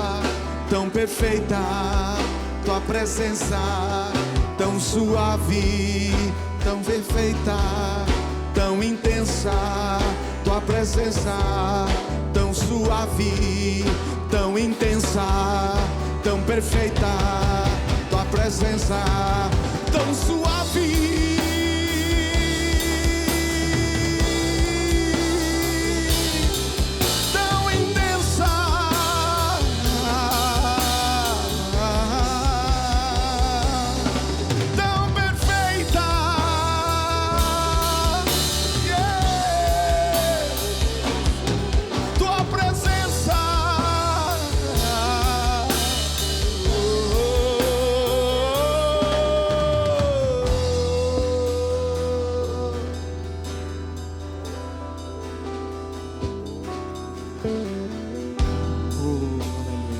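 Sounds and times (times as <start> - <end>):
drum kit beat: 0.0 - 53.7, 56.0 - 59.9
bass guitar: 0.0 - 59.9
rock band instrumental: 0.0 - 59.9.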